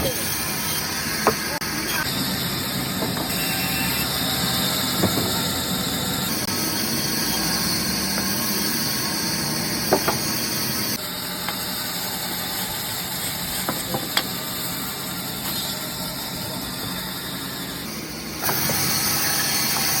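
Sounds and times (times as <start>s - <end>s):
woodworking machinery hissing: 0.0s - 20.0s.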